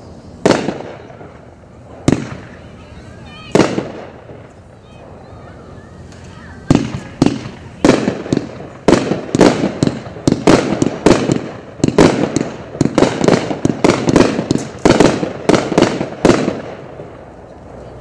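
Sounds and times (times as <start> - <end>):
fireworks shells launching and bursting: 0.0 - 18.0.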